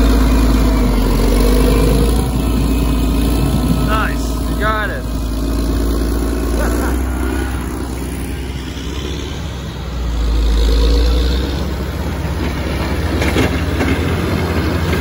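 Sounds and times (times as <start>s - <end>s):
diesel engines running: 0.0s - 15.0s.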